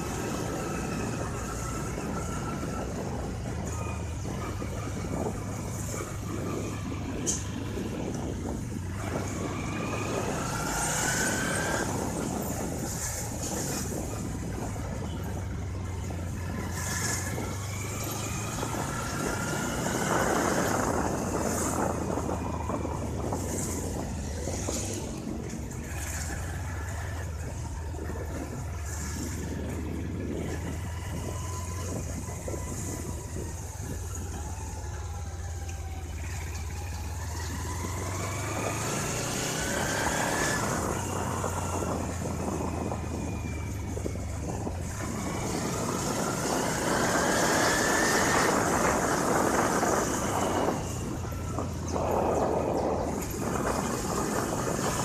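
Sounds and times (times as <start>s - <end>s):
road noise: 0.0s - 55.0s
vehicle engine hum: 0.0s - 55.0s.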